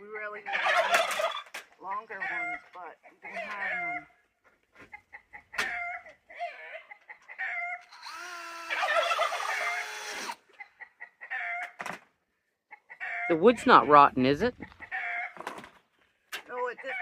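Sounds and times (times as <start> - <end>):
poultry clucking: 0.2 - 15.9, 16.6 - 17.0.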